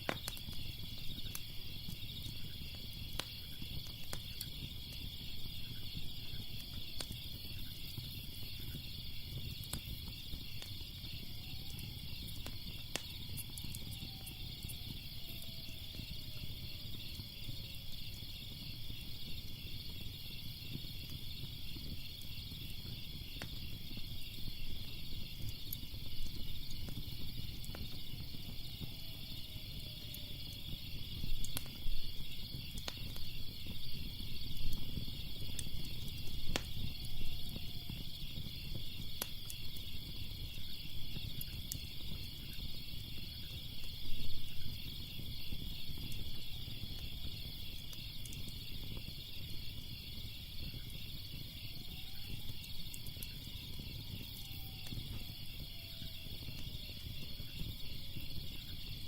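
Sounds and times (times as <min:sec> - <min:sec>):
crickets chirping: 0:00.0 - 0:59.0
fire crackling and popping: 0:00.0 - 0:59.0.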